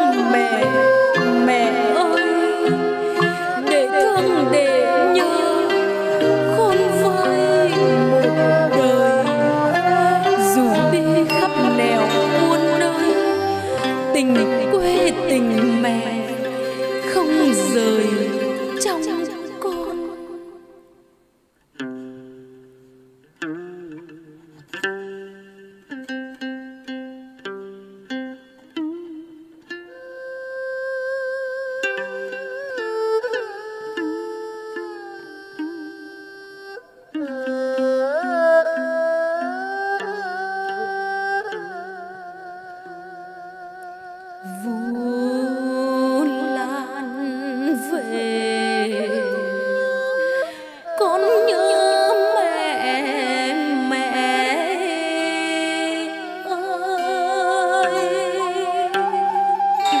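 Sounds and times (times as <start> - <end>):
woman singing folk opera: 0.0 - 21.0, 30.0 - 43.7, 44.4 - 60.0
instrumental accompaniment: 0.0 - 60.0.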